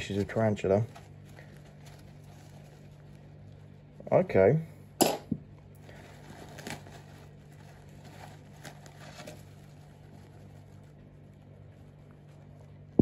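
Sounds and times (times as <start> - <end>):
paper towel rustling: 0.0 - 4.6, 5.5 - 13.0.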